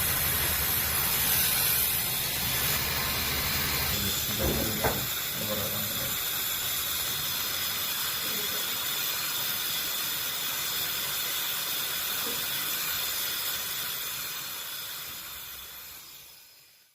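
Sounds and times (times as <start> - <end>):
gas torch hissing: 0.0 - 16.9.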